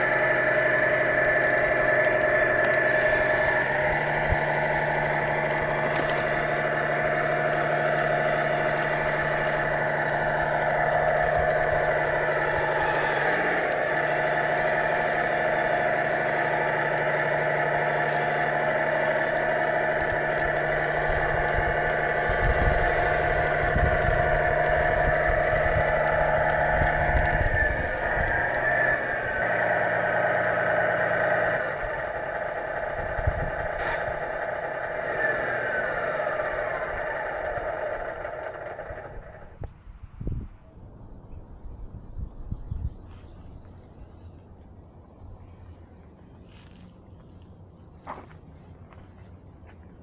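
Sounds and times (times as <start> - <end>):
low rumbling: 0.0 - 50.0
model machine whine and hum: 0.0 - 50.0.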